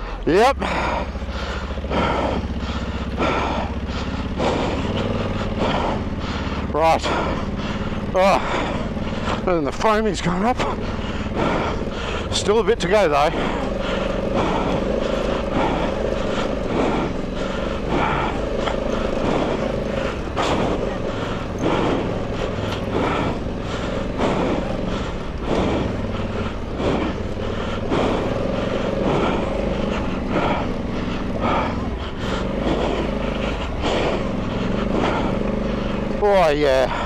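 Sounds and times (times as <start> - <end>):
motorcycle engine under load: 0.0 - 37.0.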